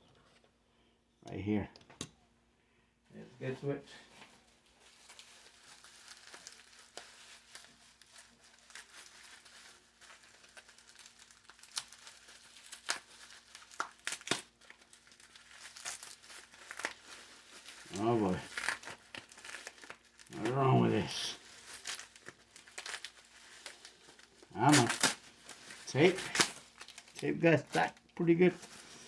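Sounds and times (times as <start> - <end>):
packaging crinkling and tearing: 4.4 - 29.0.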